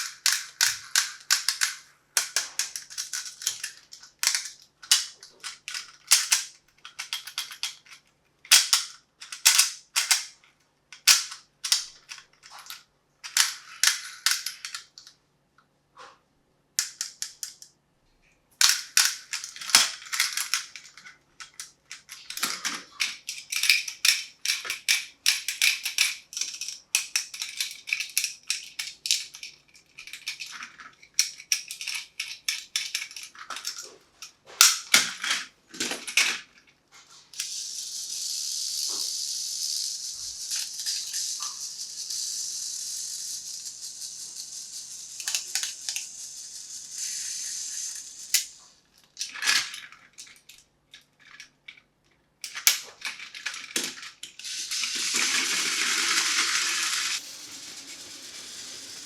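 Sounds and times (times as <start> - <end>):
toys clicking and clattering: 0.0 - 15.2, 16.8 - 17.7, 18.6 - 59.0.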